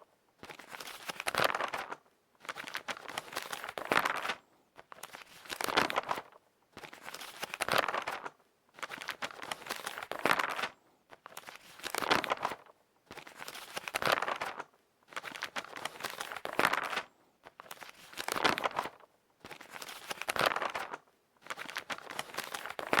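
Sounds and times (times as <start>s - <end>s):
crinkling rustling: 0.4s - 23.0s.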